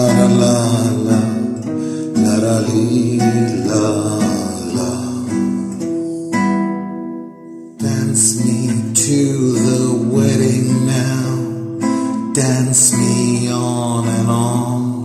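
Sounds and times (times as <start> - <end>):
classical guitar strumming: 0.0 - 15.0.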